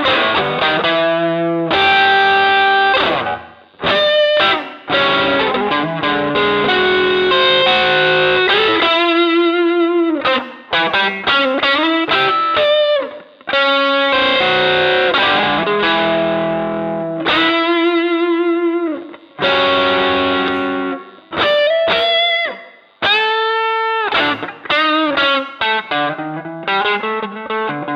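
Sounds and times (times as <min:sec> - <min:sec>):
electric guitar chords and notes: 0:00.0 - 0:27.9.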